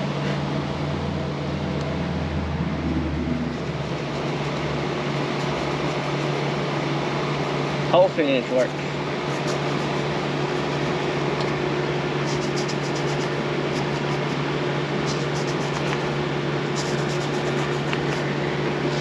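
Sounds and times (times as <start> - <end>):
fan humming with air hiss: 0.0 - 19.0.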